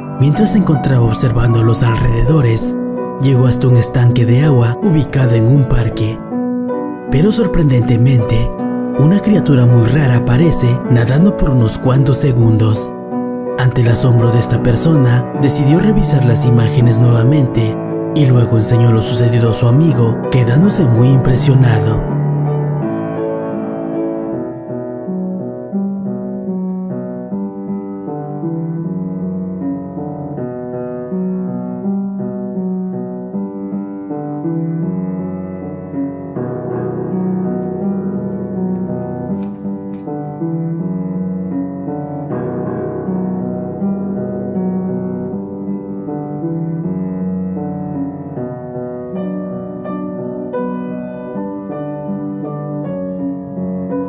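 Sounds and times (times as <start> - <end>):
background piano music: 0.0 - 54.0.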